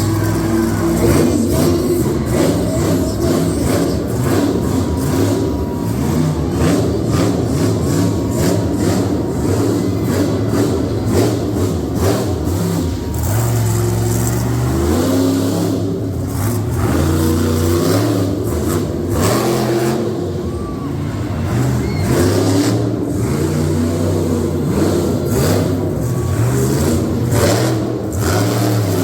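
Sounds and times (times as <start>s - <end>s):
truck engines revving: 0.0s - 29.0s.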